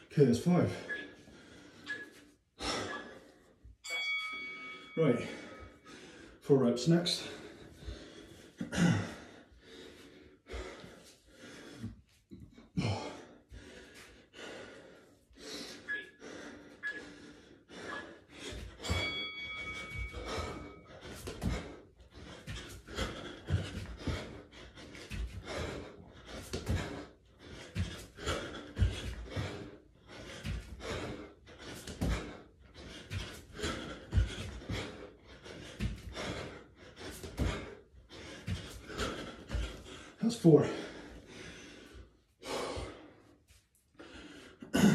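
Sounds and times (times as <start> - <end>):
man panting: 0.0 - 3.8, 5.0 - 44.9.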